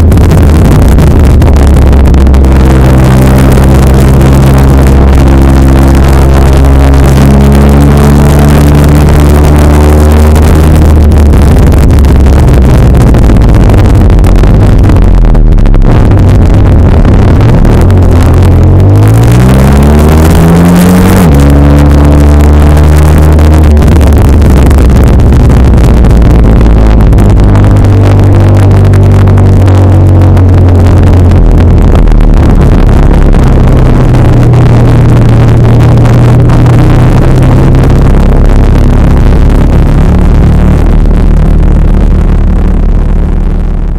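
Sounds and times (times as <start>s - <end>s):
motorcycle engine revving: 0.0s - 43.6s.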